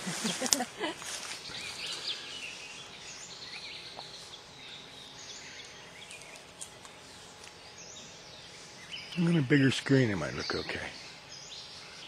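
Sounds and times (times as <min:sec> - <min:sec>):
faint forest ambience hiss: 0:00.0 - 0:12.0
birds chirping and whistling: 0:01.2 - 0:12.0.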